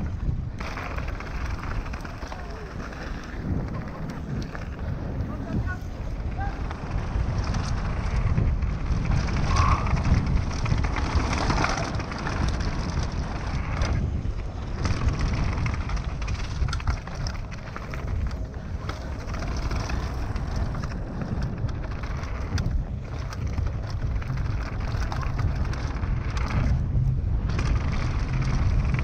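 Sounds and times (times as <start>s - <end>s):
bike frame rattling: 0.0s - 29.0s
bike tyres rumbling on dirt: 0.0s - 29.0s
wind buffeting microphone: 0.0s - 29.0s.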